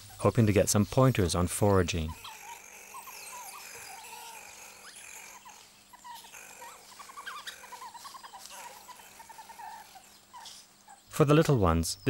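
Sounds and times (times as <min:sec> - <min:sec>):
mongooses chirping and peeping: 0:00.0 - 0:12.0.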